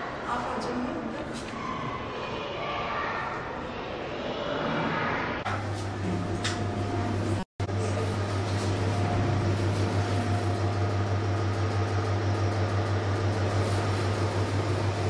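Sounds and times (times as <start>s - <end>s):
elevator humming: 0.0s - 15.0s.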